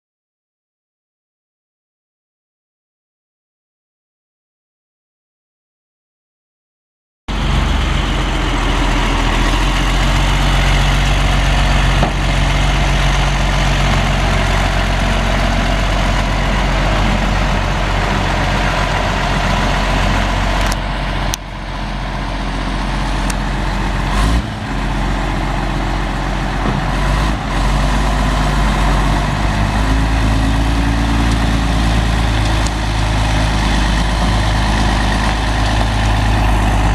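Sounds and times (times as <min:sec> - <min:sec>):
diesel truck engine running: 0:07.3 - 0:36.9.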